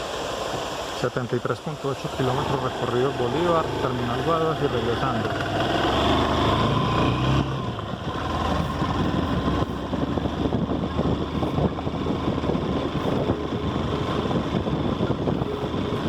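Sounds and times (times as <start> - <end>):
motorcycle engine running: 2.2 - 16.0.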